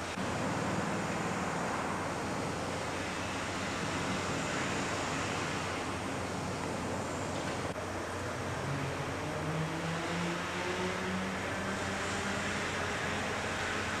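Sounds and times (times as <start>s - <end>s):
machinery noise: 0.0s - 14.0s.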